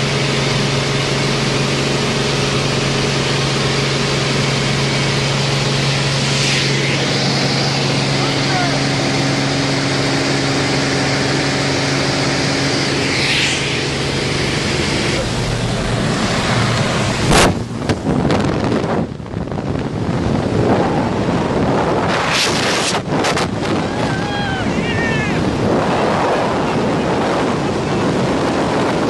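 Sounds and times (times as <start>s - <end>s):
propeller airplane engine droning: 0.0s - 29.0s
rushing wind noise: 0.1s - 29.0s.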